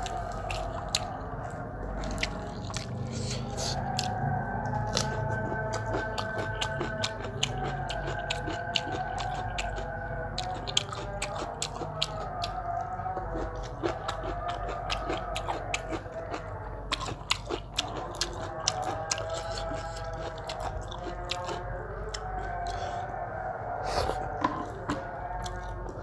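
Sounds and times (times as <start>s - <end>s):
chewing and biting food: 0.0s - 26.0s.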